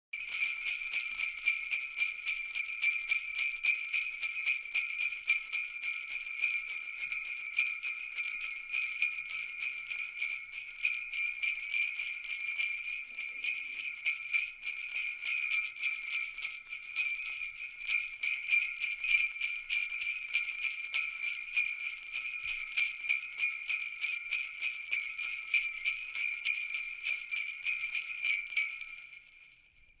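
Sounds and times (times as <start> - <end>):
jingle bells shaken: 0.2 - 30.0.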